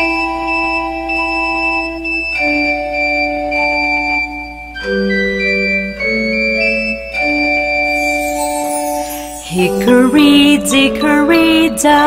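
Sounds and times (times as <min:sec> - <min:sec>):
organ-like keyboard chords: 0:00.0 - 0:12.0.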